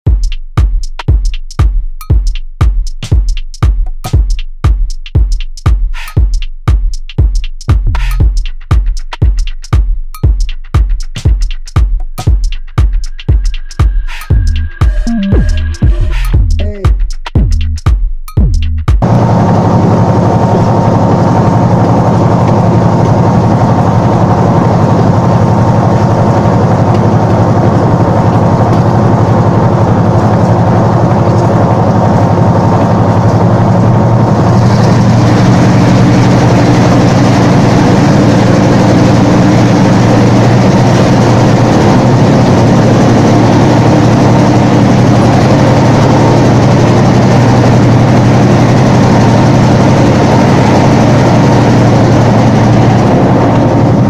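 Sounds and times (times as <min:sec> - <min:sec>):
locomotive diesel engine running: 0:02.0 - 0:54.0.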